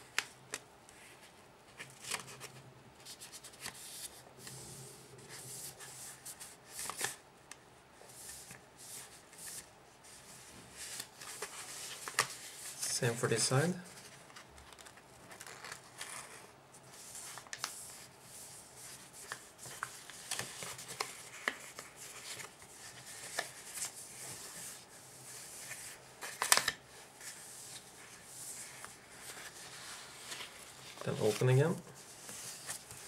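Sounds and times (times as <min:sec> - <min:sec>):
paper being folded and creased: 0:00.0 - 0:04.7, 0:05.3 - 0:07.2, 0:08.2 - 0:12.9, 0:13.9 - 0:33.0.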